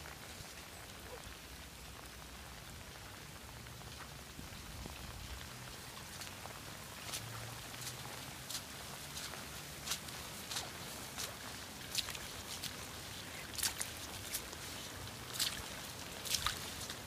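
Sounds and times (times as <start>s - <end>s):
rain falling on grass: 0.0s - 17.0s.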